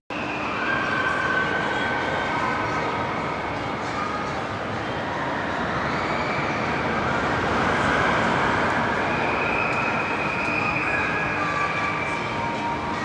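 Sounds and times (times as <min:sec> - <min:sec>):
carousel rumbling: 0:00.1 - 0:13.0.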